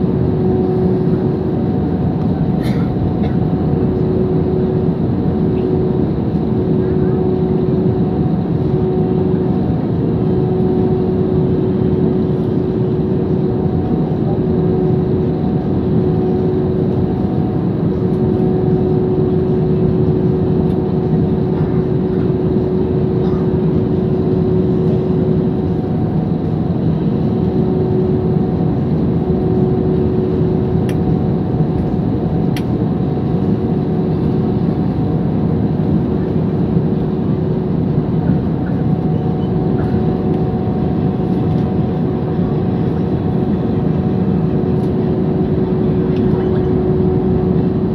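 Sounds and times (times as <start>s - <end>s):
constant hum tone: 0.0s - 47.9s
jet engines rumbling: 0.0s - 47.9s.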